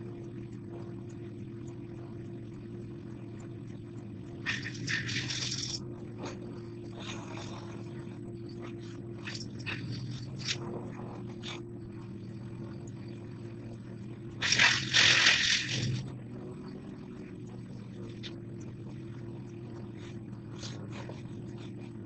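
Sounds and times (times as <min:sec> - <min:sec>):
engine idling: 0:02.4 - 0:22.0.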